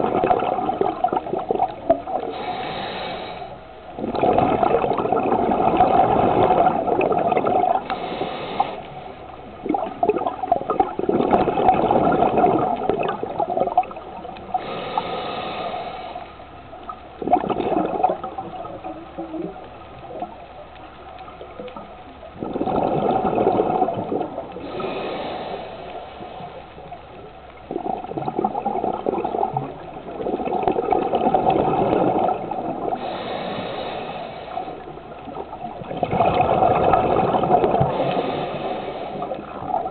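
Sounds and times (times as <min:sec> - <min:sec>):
water gurgling: 0:00.0 - 0:39.9
water rushing and bubbling: 0:00.0 - 0:39.9.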